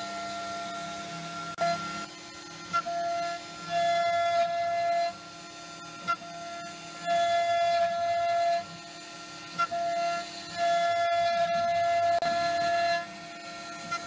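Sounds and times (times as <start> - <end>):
milling machine high whine: 0.0 - 14.0.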